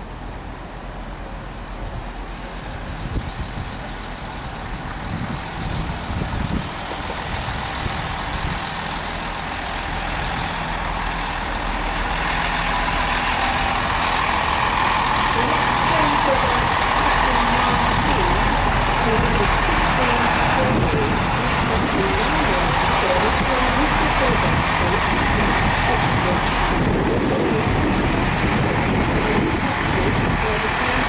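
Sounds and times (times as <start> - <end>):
train engines humming: 0.0 - 31.0
train wheels rolling on rails: 1.4 - 31.0.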